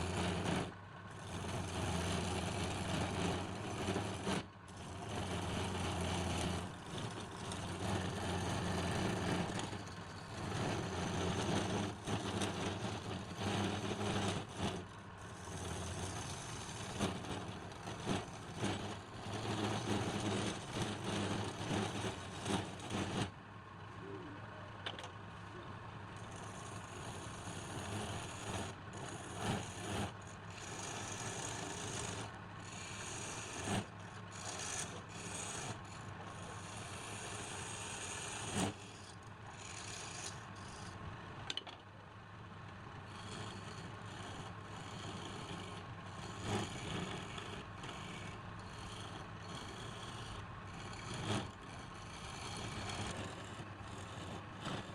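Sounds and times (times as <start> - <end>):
wood lathe humming: 0.0 - 23.3, 26.1 - 41.2, 42.7 - 54.9
spinning wood scraped: 0.0 - 23.4, 26.2 - 41.8, 42.8 - 54.9.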